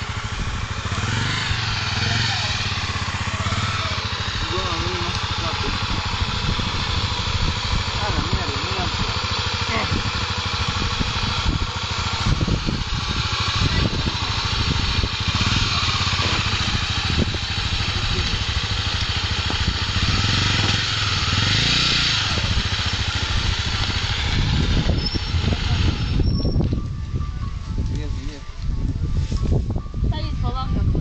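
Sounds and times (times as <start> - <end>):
steady rushing noise: 0.0 - 26.2
motorcycle engine running: 0.0 - 31.0.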